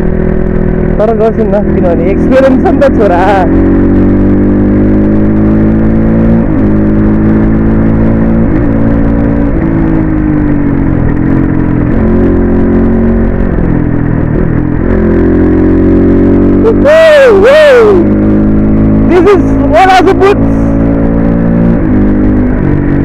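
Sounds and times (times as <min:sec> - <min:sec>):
vehicle engine running: 0:00.0 - 0:23.0
loud rising and falling tones: 0:00.9 - 0:23.0.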